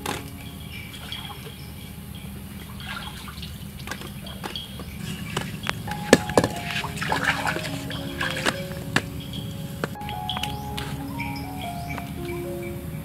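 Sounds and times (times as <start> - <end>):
water dripping and trickling: 0.1 - 11.0.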